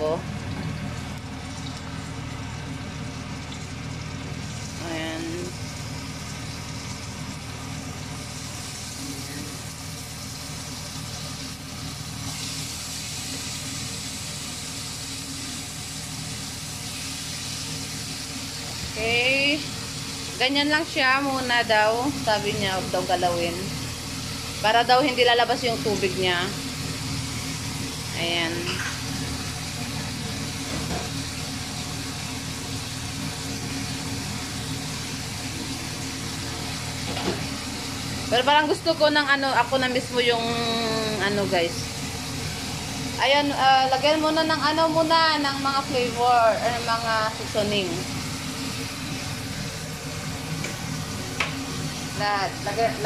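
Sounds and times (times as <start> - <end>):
chicken sizzling in hot oil: 0.0 - 53.0
exhaust fan running: 0.0 - 53.0.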